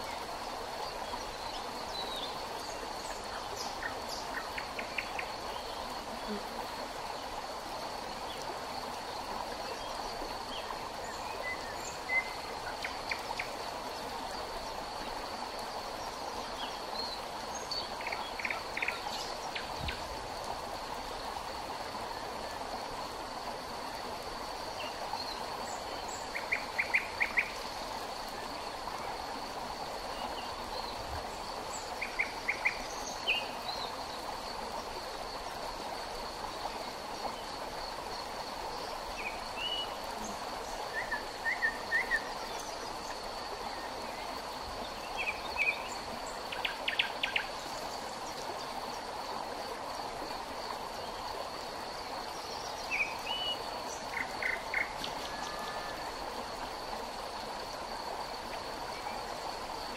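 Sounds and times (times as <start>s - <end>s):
river water flowing: 0.0s - 59.9s
high-pitched insect whine: 10.1s - 59.9s.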